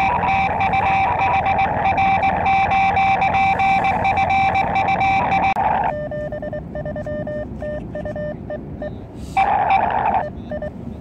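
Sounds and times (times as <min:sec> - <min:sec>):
morse code beeps: 0:00.0 - 0:09.0, 0:09.7 - 0:10.8
steady high tone: 0:00.0 - 0:10.4.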